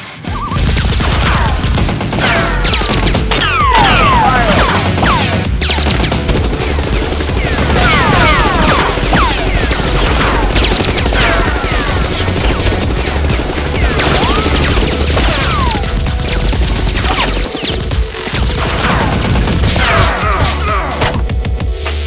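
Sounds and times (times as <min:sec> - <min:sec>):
rapid gunfire sound effects: 0:00.4 - 0:21.3.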